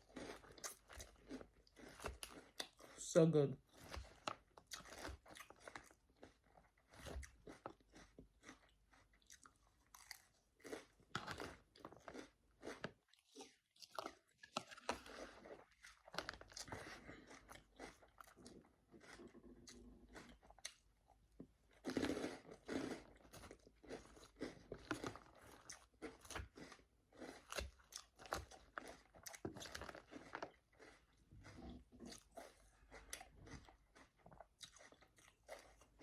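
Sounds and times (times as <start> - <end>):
salad leaves crunching while chewing: 3.7 - 20.8, 21.8 - 36.0.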